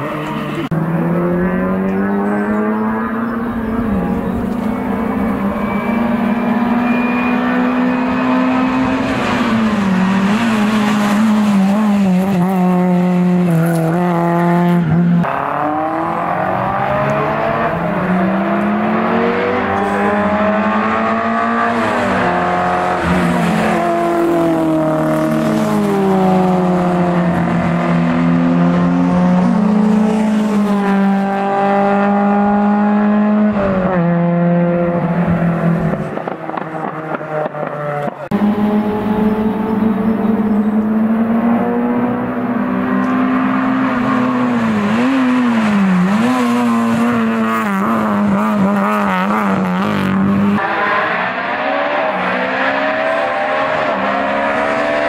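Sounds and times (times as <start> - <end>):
racing car engines at full throttle: 0.0 - 55.0.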